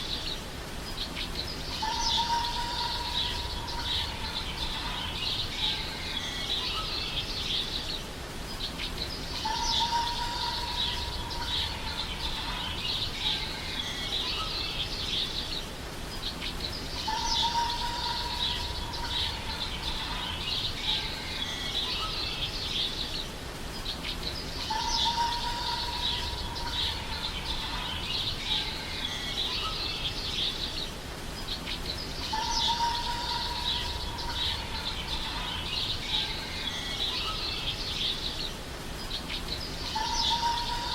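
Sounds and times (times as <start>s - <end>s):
birds chirping and twittering: 0.0s - 40.9s.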